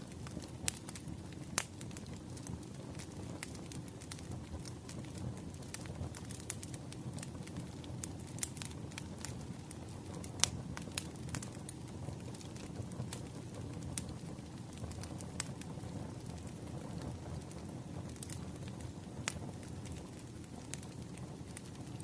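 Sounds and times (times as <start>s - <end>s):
low rumble of burning logs: 0.0s - 22.0s
wood fire crackling and popping: 0.0s - 22.0s.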